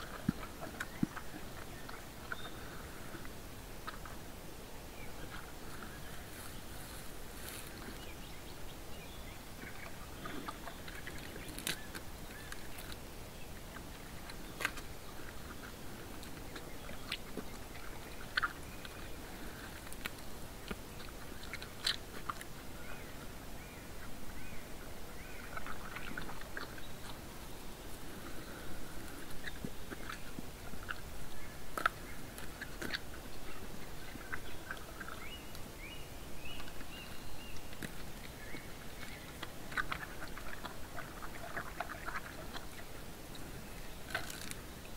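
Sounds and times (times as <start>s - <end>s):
bear chewing and crunching food: 0.0s - 44.9s.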